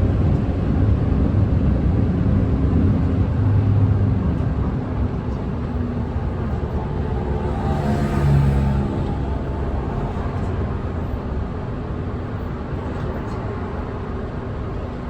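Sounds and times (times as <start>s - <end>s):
bus diesel engine from inside: 0.0s - 15.0s
road noise: 0.0s - 15.0s.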